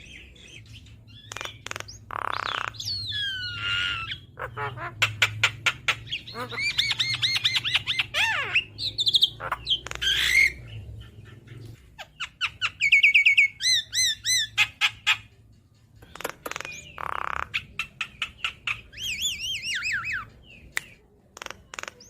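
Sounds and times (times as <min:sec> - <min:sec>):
bird singing chattering song: 0:00.0 - 0:22.0.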